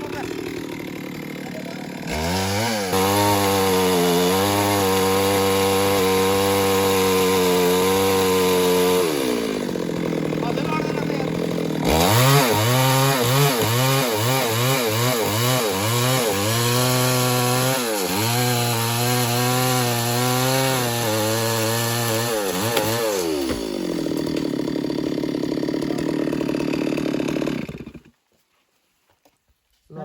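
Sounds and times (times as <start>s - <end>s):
chainsaw cutting wood: 0.0s - 28.2s.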